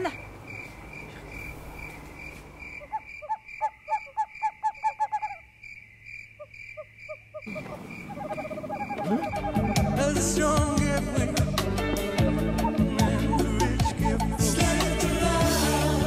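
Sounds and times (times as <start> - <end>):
cricket chirping: 0.0 - 14.7
night animal calling: 0.0 - 15.3.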